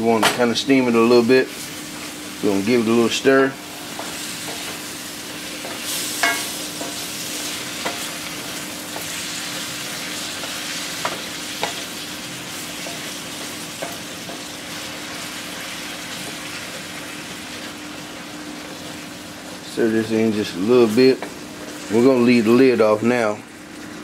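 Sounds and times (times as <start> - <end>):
vegetables sizzling in skillet: 0.0 - 24.0.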